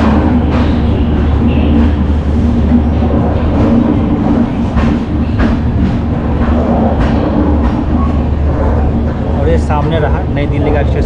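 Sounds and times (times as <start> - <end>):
wheels clacking over rail joints: 0.0 - 10.3
train wheels rumbling on track: 0.0 - 11.0.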